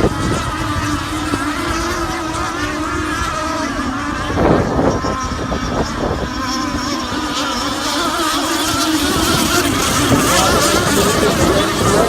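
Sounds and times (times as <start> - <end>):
racing boat engines whining: 0.0 - 12.0.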